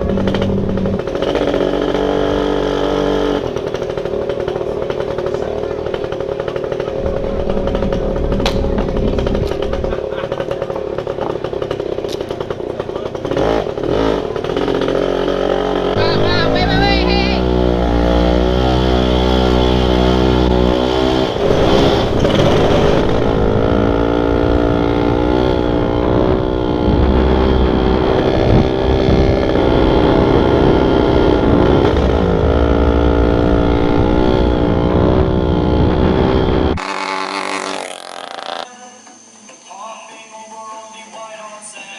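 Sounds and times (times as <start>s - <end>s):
dirt bike engine revving: 0.0s - 38.8s.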